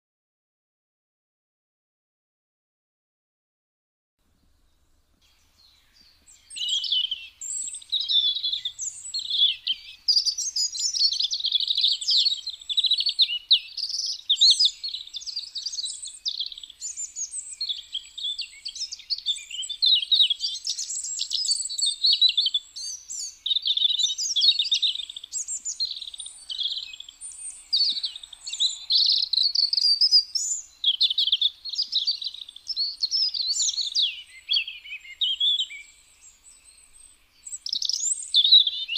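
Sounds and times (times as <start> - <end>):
robin singing: 4.3 - 38.9.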